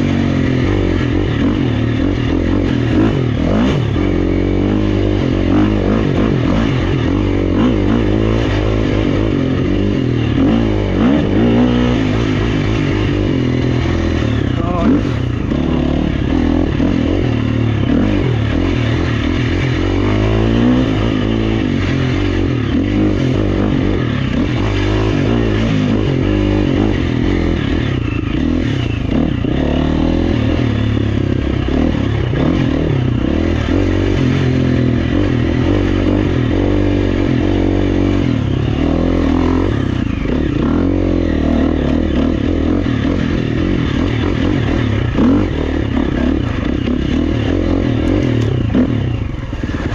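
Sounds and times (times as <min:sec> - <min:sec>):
bike rattling and scraping: 0:00.0 - 0:49.9
dirt bike engine revving: 0:00.0 - 0:49.9.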